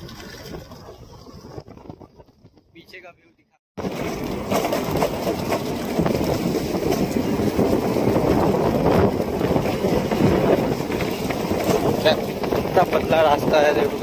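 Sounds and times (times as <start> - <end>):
wind buffeting microphone: 0.0 - 3.1, 3.8 - 14.0.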